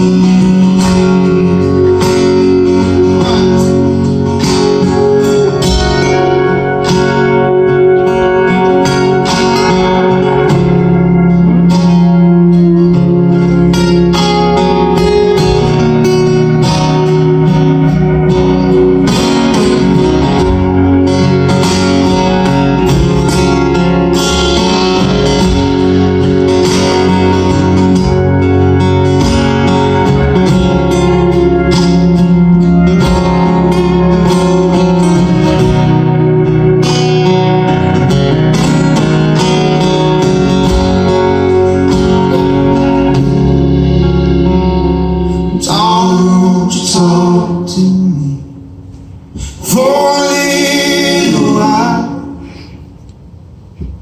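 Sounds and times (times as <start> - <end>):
live band playing acoustic guitars: 0.0 - 54.0.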